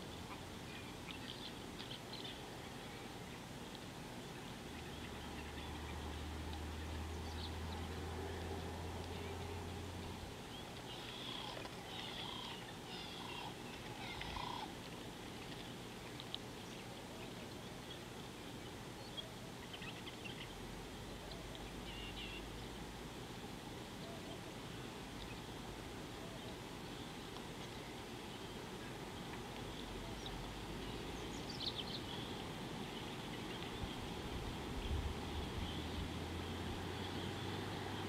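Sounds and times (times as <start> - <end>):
faint chirps and ticks: 0.0 - 38.0
outdoor background hiss: 0.0 - 38.0.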